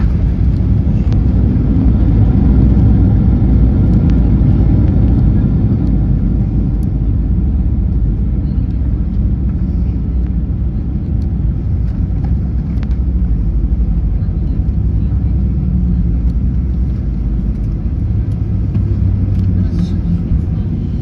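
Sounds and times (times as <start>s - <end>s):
aircraft cabin low rumble: 0.0s - 21.0s.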